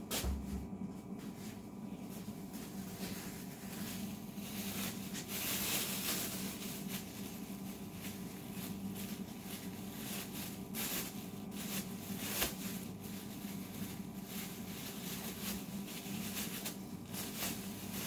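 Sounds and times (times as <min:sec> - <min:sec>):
plastic bag rustling: 0:00.0 - 0:18.0
steady low hum: 0:00.0 - 0:18.0.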